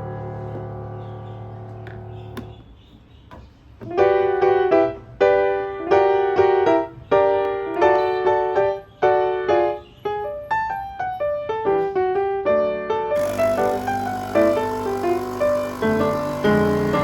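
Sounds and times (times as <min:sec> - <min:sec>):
gentle piano chords: 0:00.0 - 0:02.6, 0:03.9 - 0:17.0.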